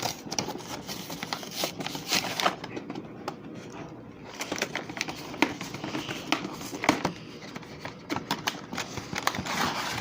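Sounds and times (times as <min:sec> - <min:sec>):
packaging rustling and crinkling: 0:00.0 - 0:02.8, 0:04.2 - 0:10.0.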